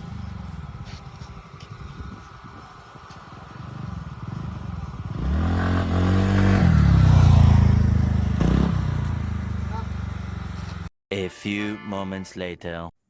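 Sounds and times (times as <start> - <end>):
motorcycle engine accelerating: 0.0 - 10.9.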